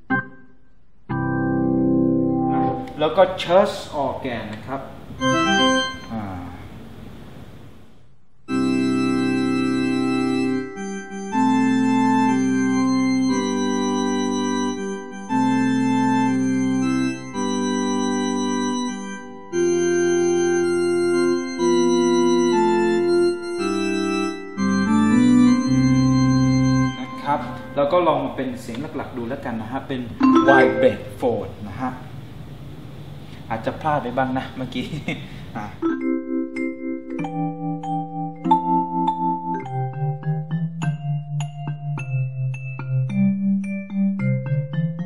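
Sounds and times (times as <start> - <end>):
sustained organ chords: 0.0 - 3.6, 5.1 - 6.2, 8.5 - 29.2, 29.9 - 31.3, 35.5 - 45.0.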